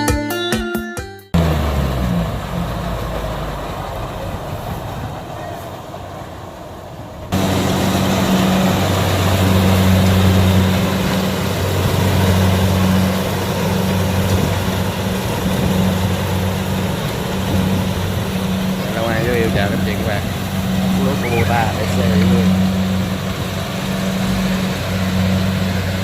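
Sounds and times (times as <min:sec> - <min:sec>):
combine harvester running: 0:01.4 - 0:26.0.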